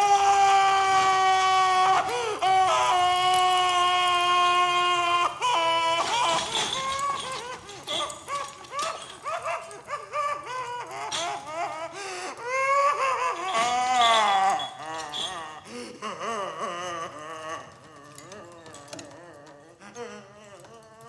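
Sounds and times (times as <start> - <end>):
person wailing: 0.0 - 21.0
person whimpering and sobbing: 0.0 - 21.0.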